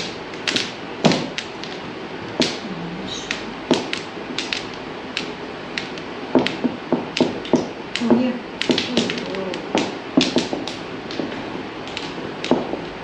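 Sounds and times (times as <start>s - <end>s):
mahjong tiles clacking on table: 0.0s - 13.0s.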